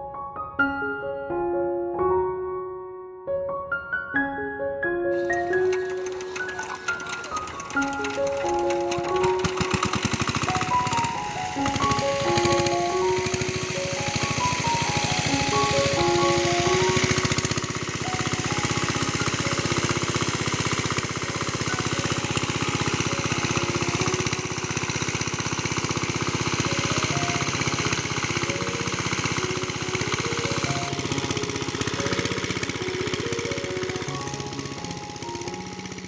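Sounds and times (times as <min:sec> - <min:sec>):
background music with simple melody: 0:00.0 - 0:20.1, 0:21.0 - 0:25.0, 0:26.6 - 0:36.0
small motor rattling: 0:05.2 - 0:36.0.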